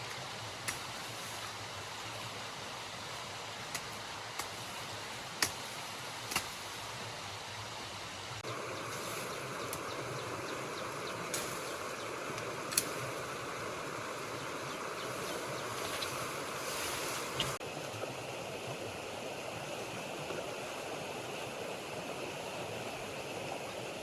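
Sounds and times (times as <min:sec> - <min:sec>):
running stream: 0:00.0 - 0:24.0.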